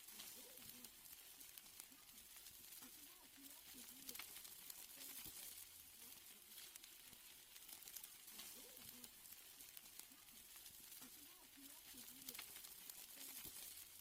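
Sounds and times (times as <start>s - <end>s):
steaks sizzling on a grill: 0.0s - 14.0s.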